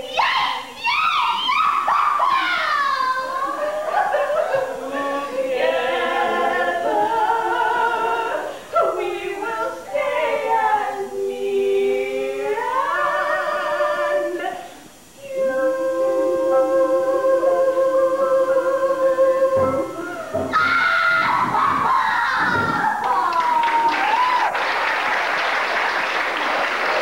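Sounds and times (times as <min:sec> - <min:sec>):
women singing with vibrato: 0:00.0 - 0:24.4.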